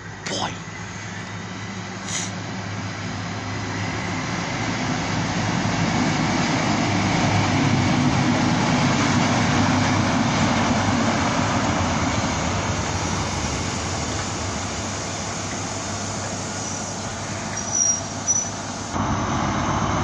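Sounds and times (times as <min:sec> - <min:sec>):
diesel train passing: 0:00.0 - 0:20.0.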